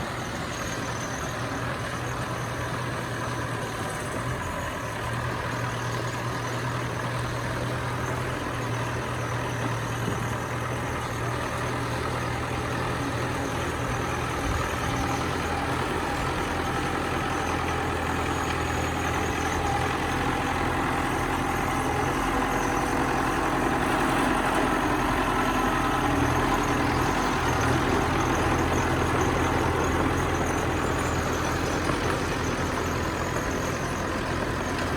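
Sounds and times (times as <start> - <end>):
bulldozer diesel engine droning: 0.0 - 34.9.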